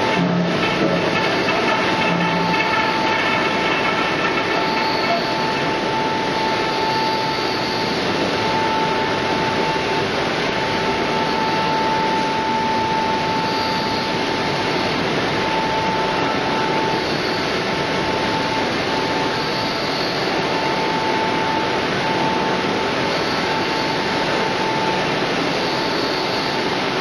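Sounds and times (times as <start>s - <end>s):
machinery hum: 0.0s - 27.0s.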